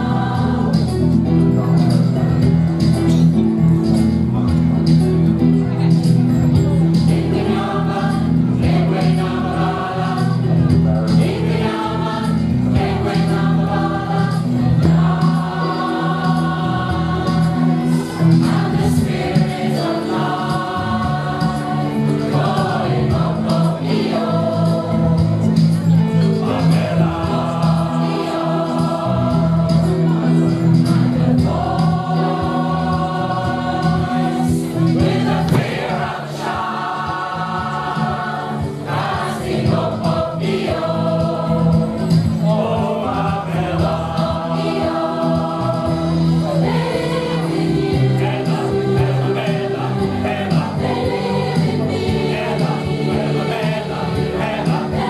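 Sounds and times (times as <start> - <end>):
mixed choir singing: 0.0 - 3.3, 6.6 - 55.0.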